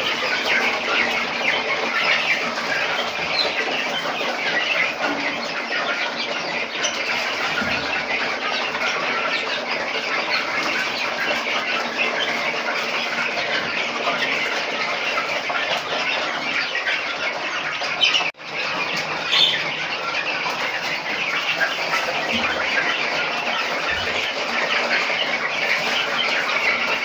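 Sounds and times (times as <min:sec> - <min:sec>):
chicks peeping and cheeping: 0:00.0 - 0:27.0.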